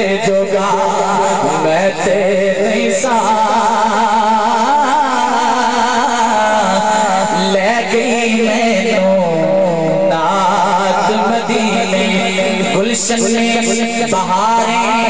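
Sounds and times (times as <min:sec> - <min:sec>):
man singing ornamented notes: 0:00.0 - 0:15.0.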